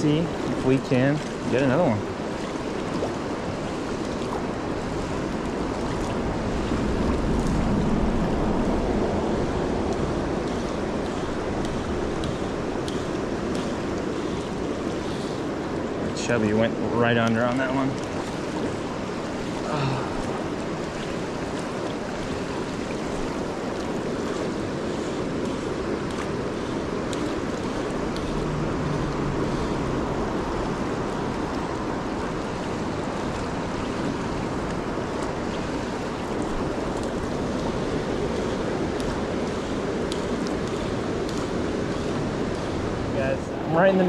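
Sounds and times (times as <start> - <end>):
river current rushing: 0.0 - 44.0.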